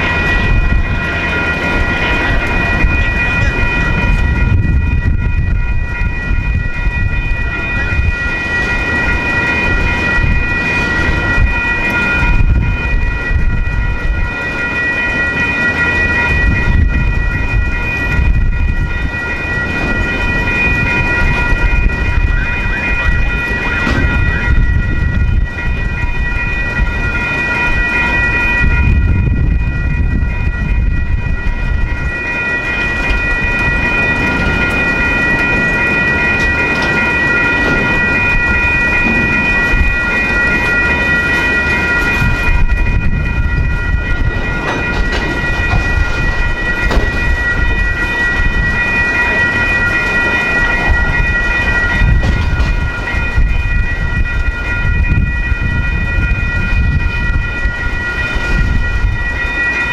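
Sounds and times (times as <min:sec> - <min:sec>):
crossing warning bells ringing: 0:00.0 - 0:59.9
freight train cars rumbling: 0:00.0 - 0:59.9.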